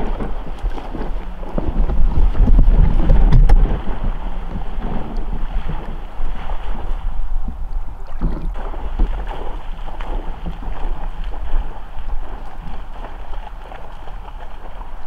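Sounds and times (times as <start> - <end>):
water lapping and splashing: 0.0 - 15.0
wind rumble on microphone: 0.0 - 15.0.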